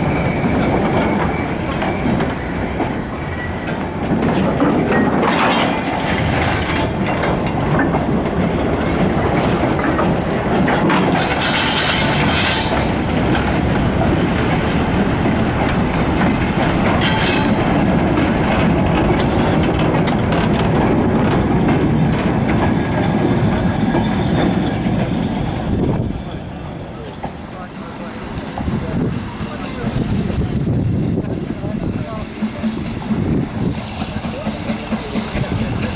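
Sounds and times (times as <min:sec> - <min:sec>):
train wagons rolling on track: 0:00.0 - 0:35.9
wheels clicking over rail joints: 0:00.3 - 0:26.2, 0:26.9 - 0:35.9.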